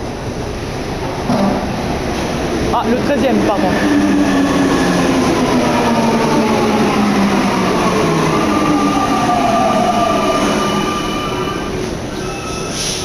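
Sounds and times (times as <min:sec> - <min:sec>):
metro train motor whine: 0:00.0 - 0:13.0.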